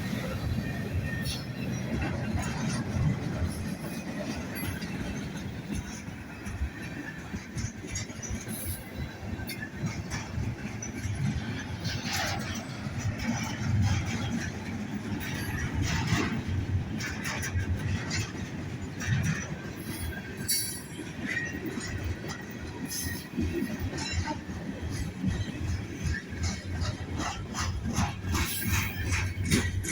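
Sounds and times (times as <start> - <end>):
freight train rumbling on rails: 0.0 - 29.9
train cars clanking: 0.0 - 29.9.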